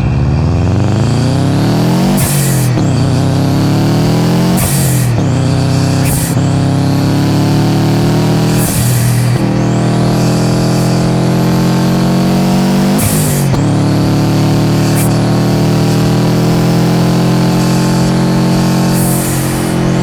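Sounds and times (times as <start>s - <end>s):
car engine revving: 0.0s - 20.0s
blow-off valve hiss: 1.0s - 20.0s
turbo whistle: 1.0s - 20.0s.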